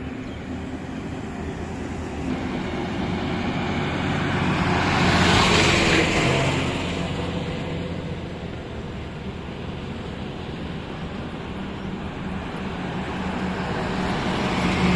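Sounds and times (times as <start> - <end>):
truck diesel engine: 0.0 - 14.9.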